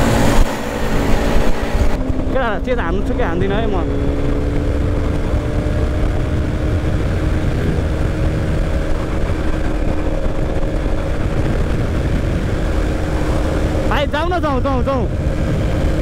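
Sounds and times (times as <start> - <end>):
motorcycle engine running: 0.0 - 16.0
road rumble: 0.0 - 16.0
wind on microphone: 0.0 - 16.0.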